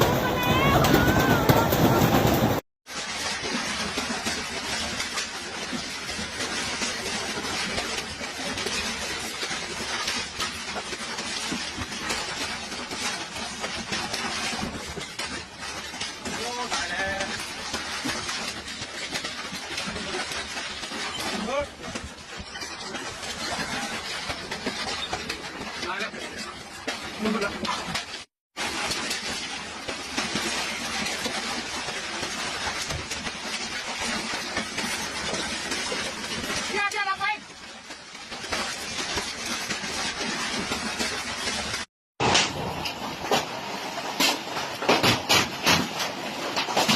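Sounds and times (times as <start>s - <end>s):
hail and rain pelting down: 0.0s - 21.7s, 27.2s - 37.6s, 38.4s - 46.9s.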